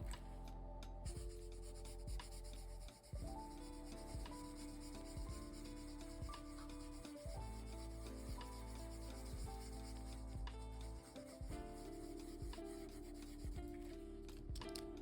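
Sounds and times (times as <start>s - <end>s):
soft background music: 0.0s - 15.0s
pencil scratching on paper: 1.1s - 13.9s.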